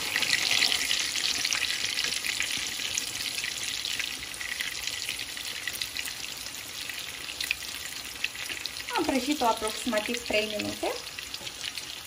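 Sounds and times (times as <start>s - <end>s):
dough sizzling in a frying pan: 0.0s - 12.0s.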